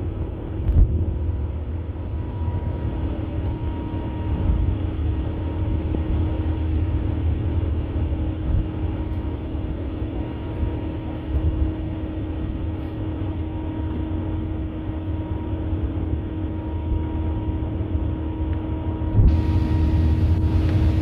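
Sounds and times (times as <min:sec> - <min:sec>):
airplane cabin engine rumble: 0:00.0 - 0:21.0
faint steady hum tone: 0:00.0 - 0:21.0.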